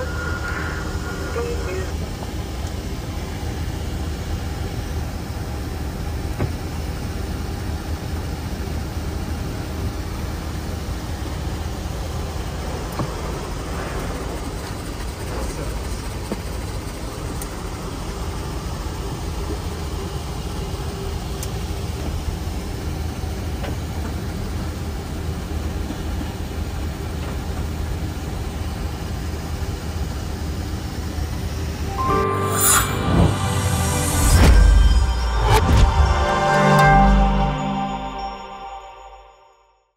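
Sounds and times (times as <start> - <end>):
engine sound: 0.0 - 25.2, 31.6 - 38.8.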